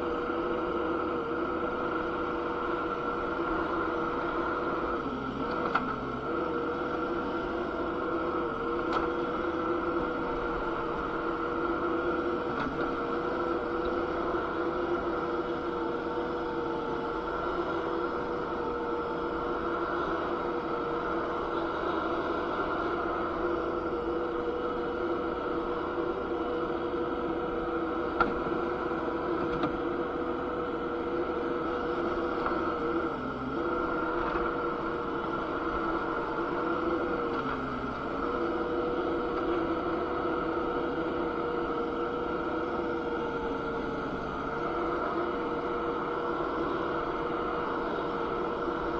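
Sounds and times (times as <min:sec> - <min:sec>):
skid steer machine hum: 0:00.0 - 0:48.9.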